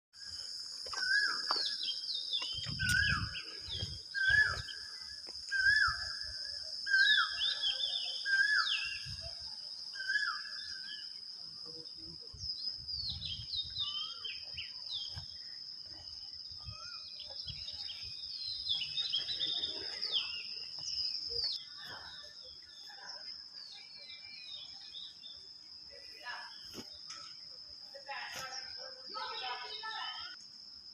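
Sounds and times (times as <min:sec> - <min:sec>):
insect drone: 0:00.2 - 0:30.9.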